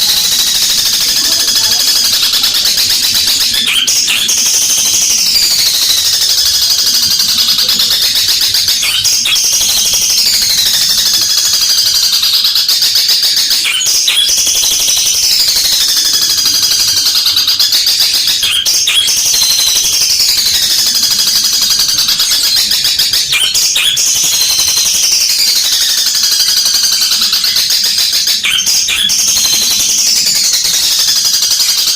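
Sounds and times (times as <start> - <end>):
bird singing harsh chatter: 0.0 - 31.9.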